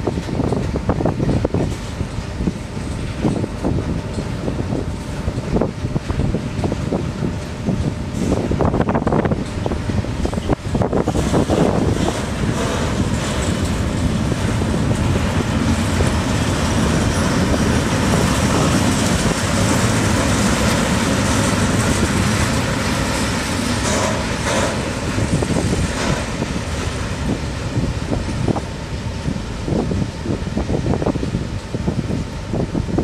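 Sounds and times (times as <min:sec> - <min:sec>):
train rolling past: 0:00.0 - 0:33.0.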